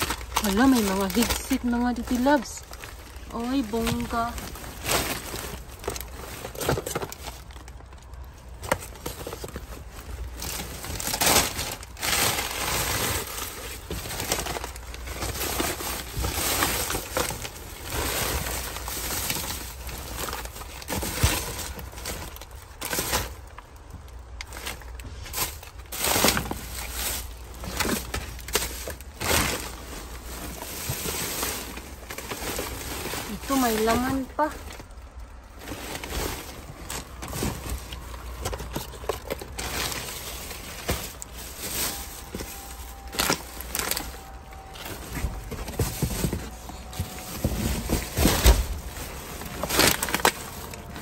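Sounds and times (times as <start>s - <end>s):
plastic bags and cardboard rustling: 0.0s - 51.0s.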